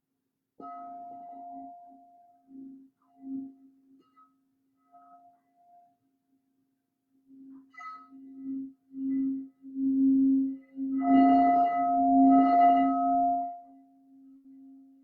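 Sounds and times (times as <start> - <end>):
low singing bowl tone: 0.6 - 6.0, 7.2 - 15.0.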